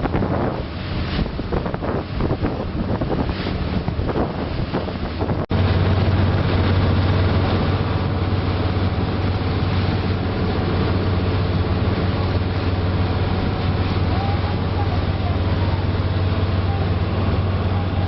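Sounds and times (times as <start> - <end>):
boat engine humming: 0.0 - 18.0
broad rushing noise: 0.0 - 18.0.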